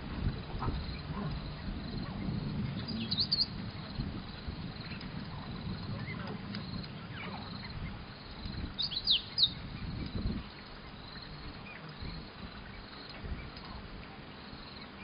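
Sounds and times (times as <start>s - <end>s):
low rumbling noise: 0.0s - 14.2s.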